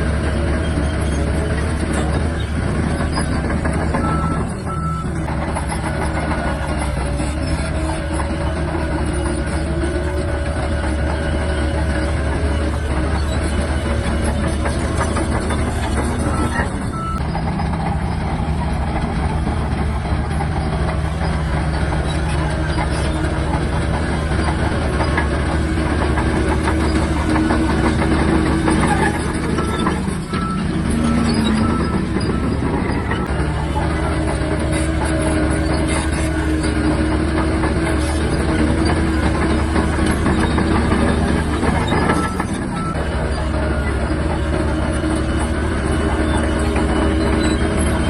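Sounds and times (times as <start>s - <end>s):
bulldozer diesel engine running: 0.0s - 48.0s
steel tracks clattering: 0.0s - 48.0s.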